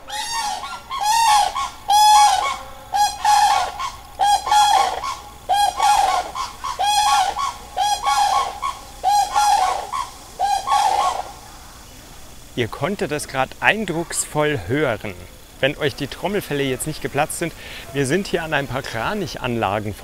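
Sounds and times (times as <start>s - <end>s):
cranes trumpeting calls: 0.0s - 19.8s.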